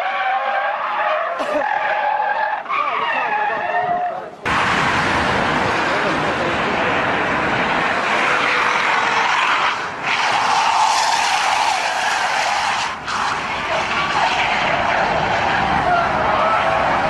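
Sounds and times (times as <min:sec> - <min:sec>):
car tyres screeching: 0:00.0 - 0:17.0.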